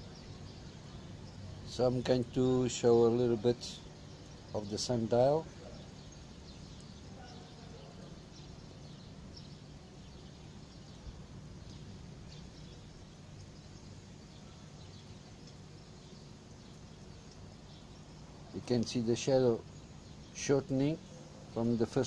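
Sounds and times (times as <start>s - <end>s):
distant bird chirps: 0.0s - 22.0s
low steady hum: 0.0s - 22.0s.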